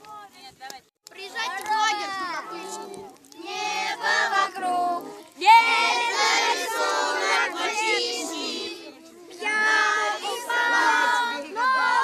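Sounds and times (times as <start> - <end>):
children singing together: 2.0 - 12.0.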